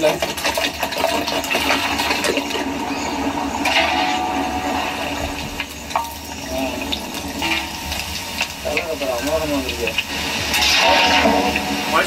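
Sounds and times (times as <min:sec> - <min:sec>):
hot liquid bubbling and hissing: 0:00.0 - 0:12.0.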